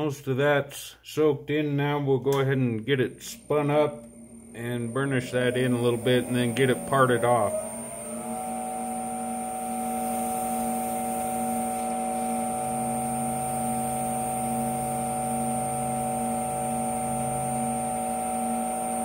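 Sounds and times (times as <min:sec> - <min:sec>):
low hum: 0:01.4 - 0:18.7
wood lathe motor whine: 0:02.8 - 0:19.0.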